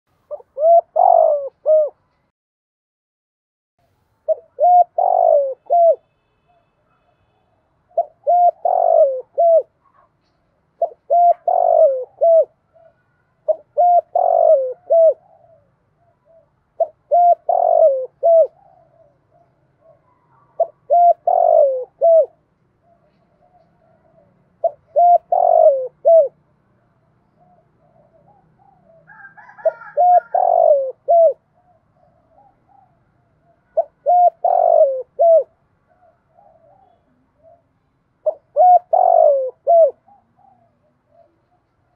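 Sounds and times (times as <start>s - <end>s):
dove cooing: 0.3s - 2.2s, 4.2s - 6.6s, 7.9s - 26.4s, 27.2s - 41.9s.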